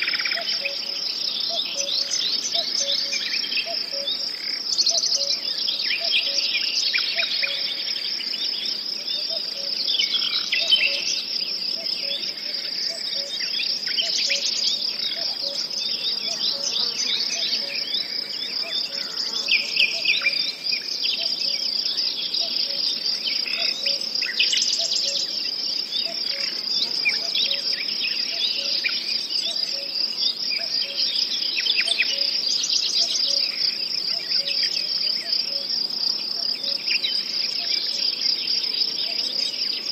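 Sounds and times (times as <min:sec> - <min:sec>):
birds chirping and calling: 0:00.0 - 0:08.3, 0:09.0 - 0:39.9
insects trilling: 0:00.0 - 0:39.9.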